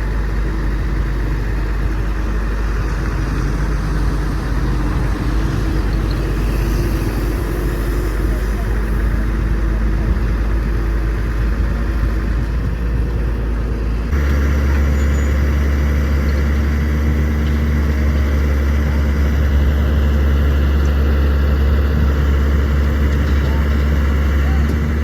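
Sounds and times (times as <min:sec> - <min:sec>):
heavy vehicle engine idling: 0:00.0 - 0:25.0.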